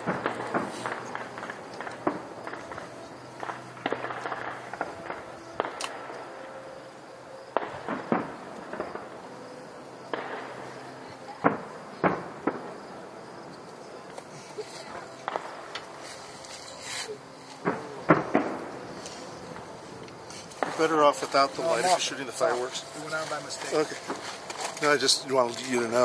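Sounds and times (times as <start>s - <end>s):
fireworks bangs and pops: 0.0s - 6.2s, 7.5s - 9.2s, 10.1s - 13.0s, 14.1s - 26.0s.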